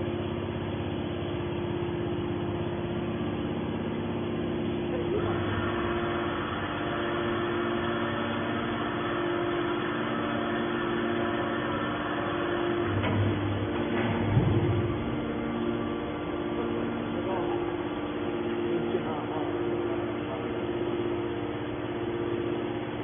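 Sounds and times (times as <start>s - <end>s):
scrap metal baler humming: 0.0s - 23.0s.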